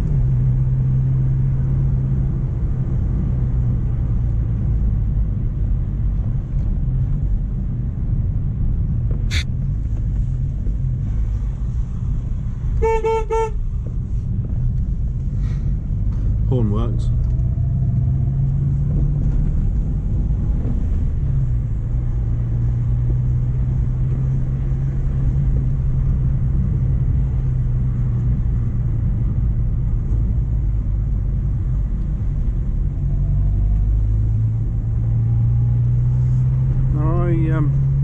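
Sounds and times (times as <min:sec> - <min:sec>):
car engine humming: 0:00.0 - 0:38.0.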